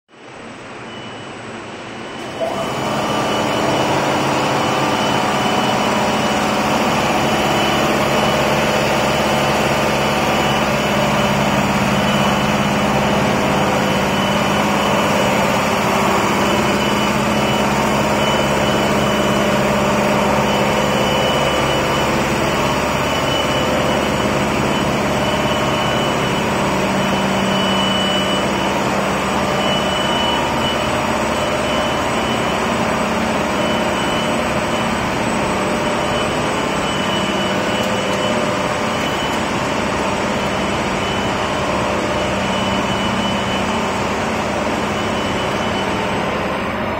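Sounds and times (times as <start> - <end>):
steady mechanical drone: 0.2 - 46.9
faint high whine: 0.3 - 46.9.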